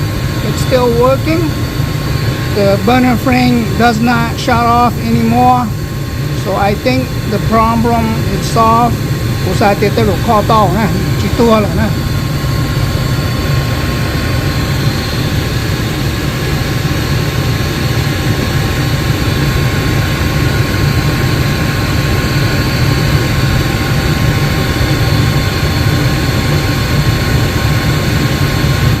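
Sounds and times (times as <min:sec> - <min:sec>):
furnace burner roaring: 0:00.0 - 0:29.0.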